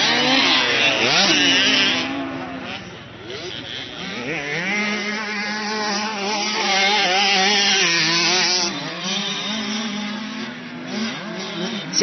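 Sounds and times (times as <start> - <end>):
motocross bike engine running: 0.0 - 12.0.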